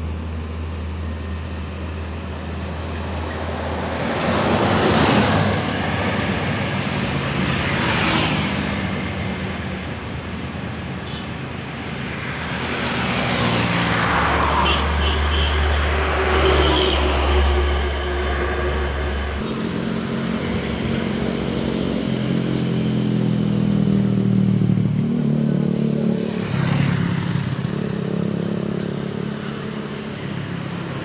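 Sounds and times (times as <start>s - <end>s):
vehicles passing by: 0.0s - 31.0s.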